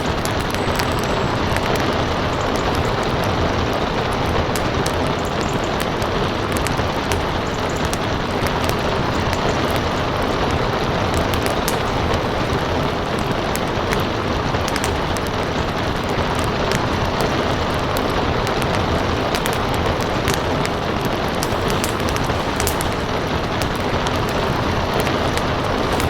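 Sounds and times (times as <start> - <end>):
rain hissing: 0.0 - 26.0
wood fire crackling: 0.0 - 26.0.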